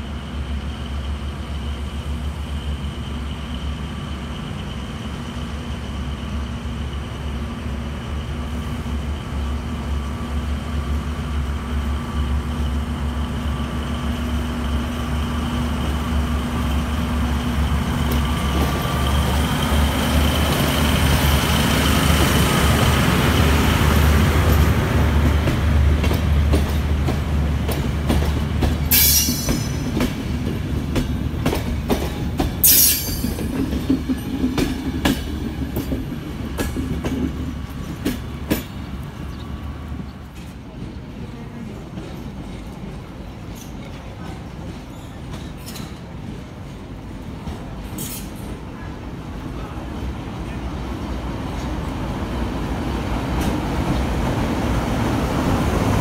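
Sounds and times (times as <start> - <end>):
diesel locomotive engine hum: 0.0 - 56.0.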